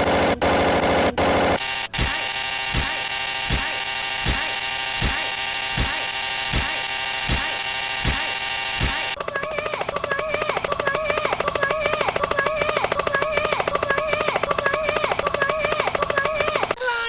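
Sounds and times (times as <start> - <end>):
fast electronic buzzing: 0.0 - 16.8.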